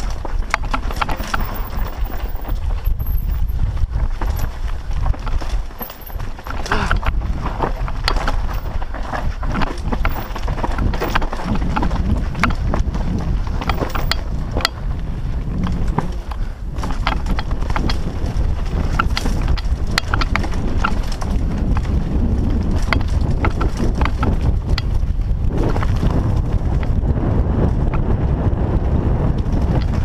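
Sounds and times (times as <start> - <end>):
bike clicks and rattles: 0.0 - 30.0
wind and tyres rumbling on trail: 0.0 - 30.0.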